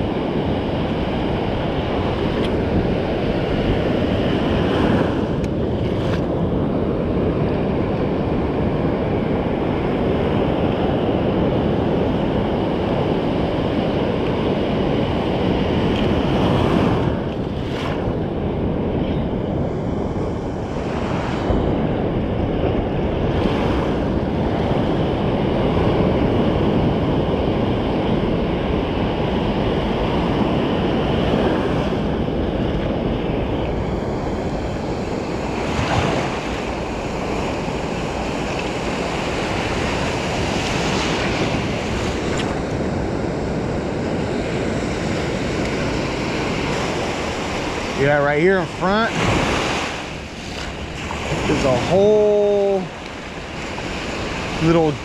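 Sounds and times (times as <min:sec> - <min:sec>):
ocean surf breaking: 0:00.0 - 0:55.0
wind buffeting microphone: 0:00.0 - 0:55.0.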